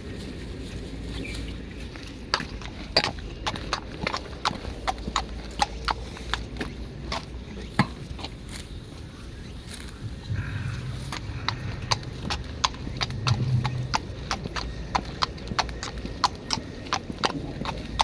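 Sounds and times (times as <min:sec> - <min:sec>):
footsteps on paved path: 0:00.0 - 0:18.0.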